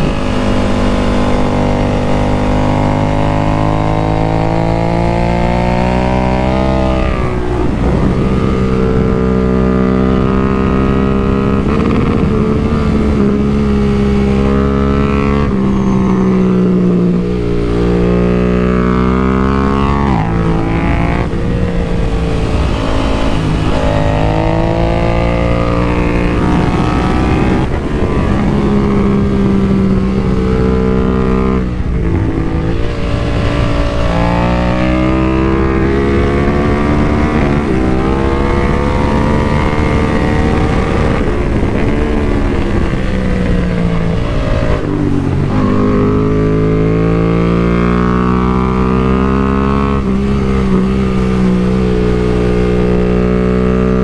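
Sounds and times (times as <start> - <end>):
motorcycle engine at full throttle: 0.0 - 54.0
wind rush on microphone: 0.0 - 54.0.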